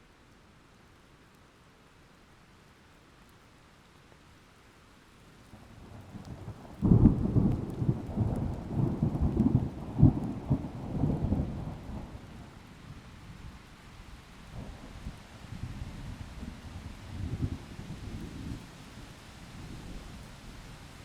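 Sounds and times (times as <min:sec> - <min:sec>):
faint rain hiss: 0:00.0 - 0:21.0.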